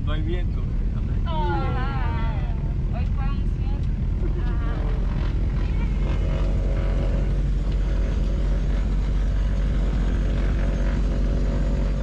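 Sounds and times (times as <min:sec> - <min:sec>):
propeller engines running: 0:00.0 - 0:12.0.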